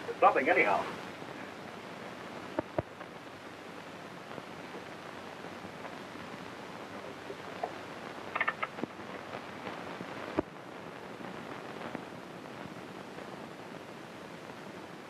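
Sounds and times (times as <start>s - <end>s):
soundtrack hiss: 0.0s - 15.0s.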